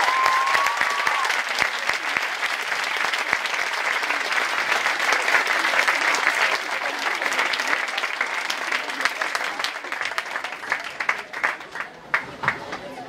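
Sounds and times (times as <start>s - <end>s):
audience clapping: 0.0s - 12.9s.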